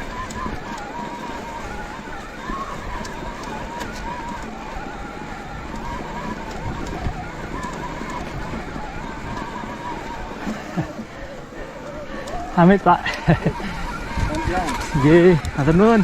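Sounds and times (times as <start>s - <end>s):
electric bike motor whining: 0.0s - 16.0s
steady rush of noise: 0.0s - 16.0s.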